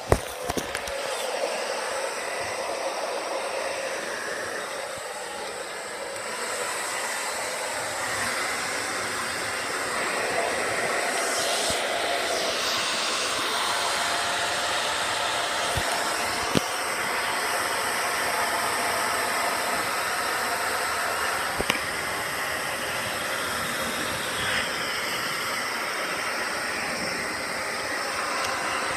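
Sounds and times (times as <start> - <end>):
hair dryer blowing: 0.0 - 28.9.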